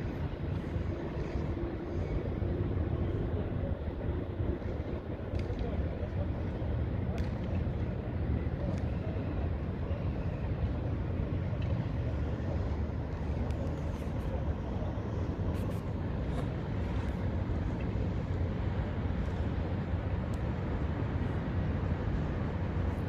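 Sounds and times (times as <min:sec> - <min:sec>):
low city rumble: 0:00.0 - 0:23.0.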